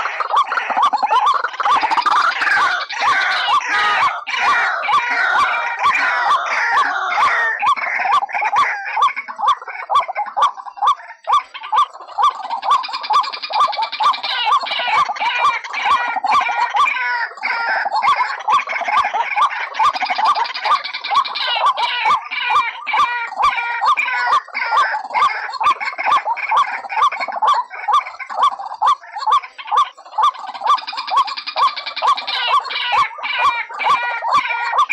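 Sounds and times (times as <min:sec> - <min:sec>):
bird chattering calls: 0:00.0 - 0:34.9
waterhen calling: 0:00.0 - 0:34.9.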